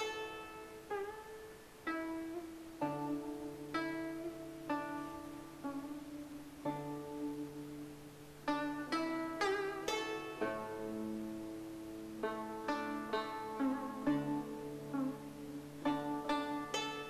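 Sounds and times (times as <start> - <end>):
plucked string instrument notes: 0.0 - 17.0.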